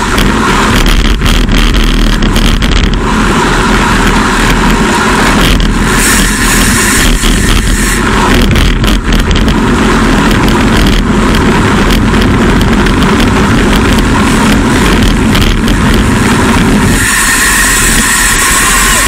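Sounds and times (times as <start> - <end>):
bike tyre noise: 0.0 - 19.0
high hum: 0.0 - 19.0
wind rush: 0.0 - 19.0.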